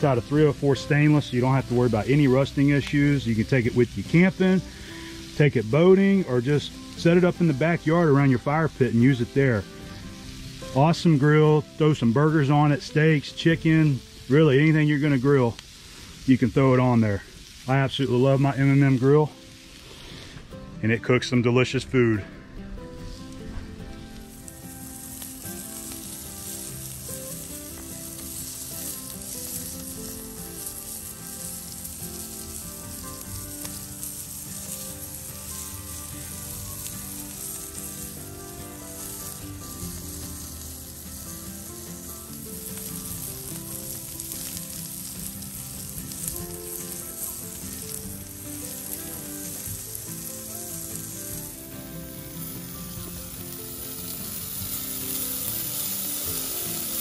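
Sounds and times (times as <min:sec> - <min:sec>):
chicken sizzling on a grill: 0:00.0 - 0:22.2, 0:23.0 - 0:57.0
campfire crackling: 0:00.0 - 0:57.0.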